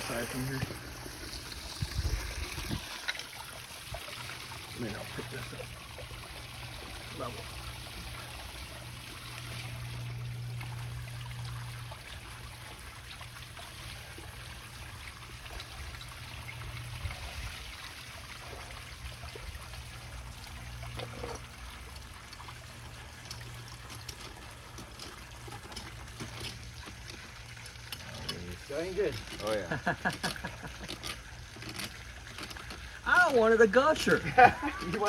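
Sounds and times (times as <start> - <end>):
water flowing from pipe: 0.0 - 35.0.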